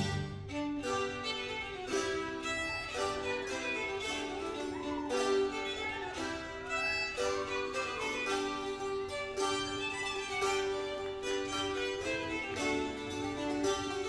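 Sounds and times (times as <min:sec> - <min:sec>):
plucked string accompaniment: 0:00.0 - 0:14.0
violin melody: 0:00.0 - 0:14.0.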